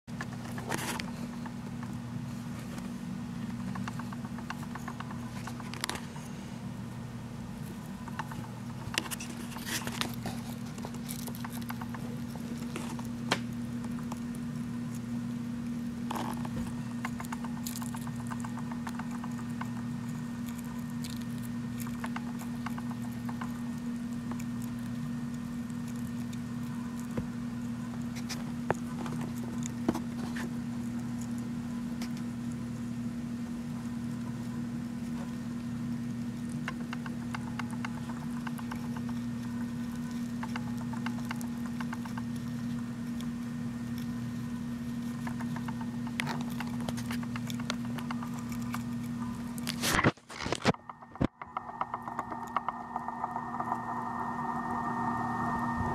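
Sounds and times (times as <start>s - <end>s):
steady low hum: 0.1s - 55.9s
hamster crunching seeds: 0.2s - 53.8s.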